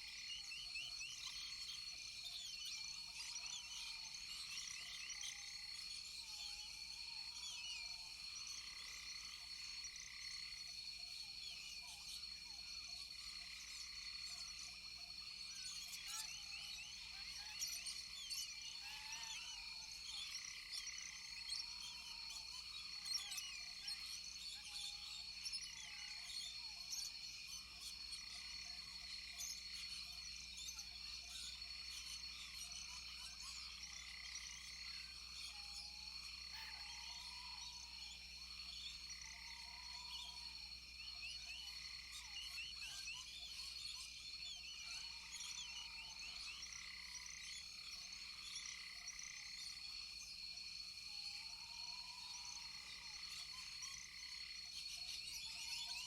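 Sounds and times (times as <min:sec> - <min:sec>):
frog and insect chirps: 0:00.0 - 0:56.0
high insect drone: 0:00.1 - 0:56.0.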